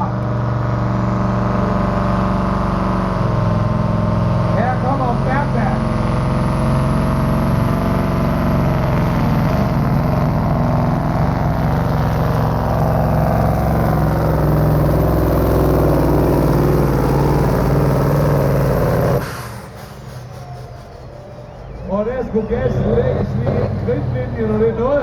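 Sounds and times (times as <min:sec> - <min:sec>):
truck engine running hard: 0:00.0 - 0:25.0.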